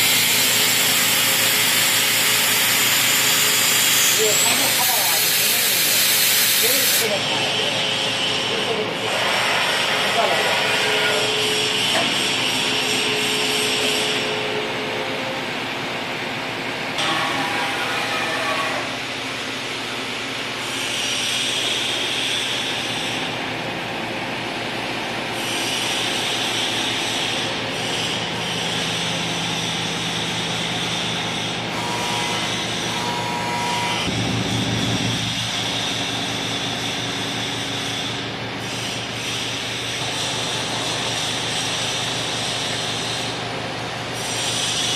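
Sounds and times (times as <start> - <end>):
machine mechanical drone: 0.0 - 44.9.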